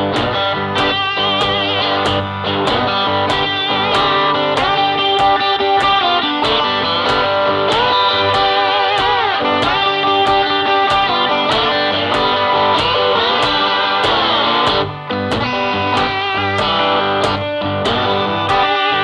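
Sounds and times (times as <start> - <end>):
guitar music over steady beat: 0.0 - 19.0.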